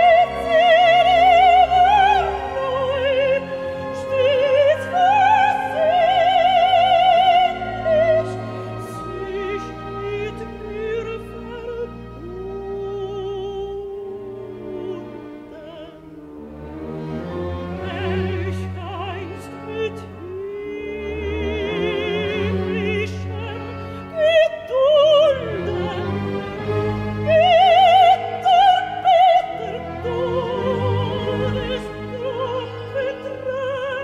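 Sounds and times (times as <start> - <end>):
soprano singing with vibrato: 0.0 - 16.2, 17.8 - 26.2, 27.2 - 34.0
orchestra sustained strings: 0.0 - 34.0.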